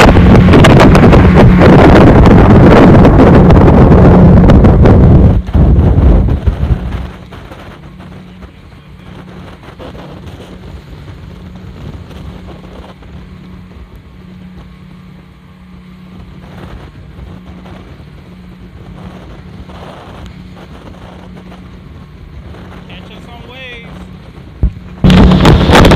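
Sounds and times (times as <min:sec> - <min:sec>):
speedboat engine running: 0:00.0 - 0:25.9
water splashing along hull: 0:00.0 - 0:25.9
wind buffeting microphone: 0:00.0 - 0:25.9.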